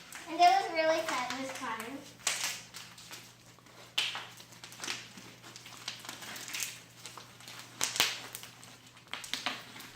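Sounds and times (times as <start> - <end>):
slime squishing and popping: 1.0 - 9.9.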